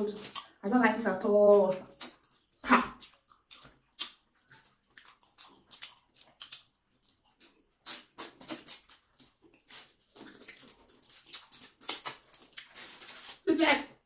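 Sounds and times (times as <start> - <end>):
wet chewing clicks and smacks: 0.1 - 0.6, 1.6 - 12.9.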